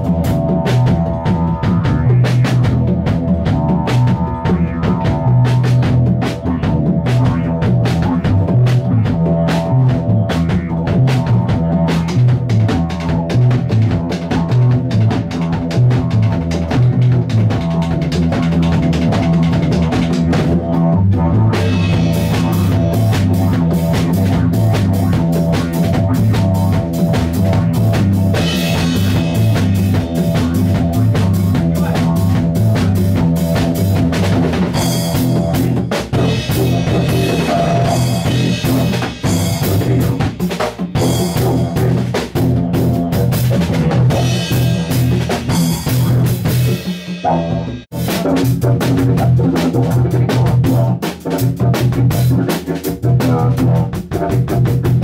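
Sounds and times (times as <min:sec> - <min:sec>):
drum kit beat: 0:00.0 - 0:55.0
sustained low bass notes: 0:00.0 - 0:55.0.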